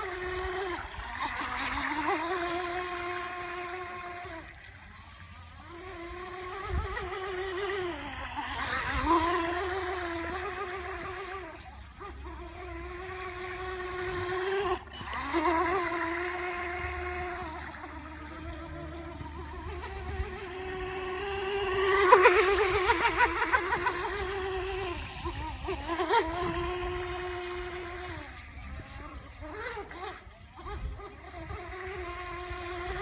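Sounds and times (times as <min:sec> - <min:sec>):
electric motor whining: 0:00.0 - 0:33.0.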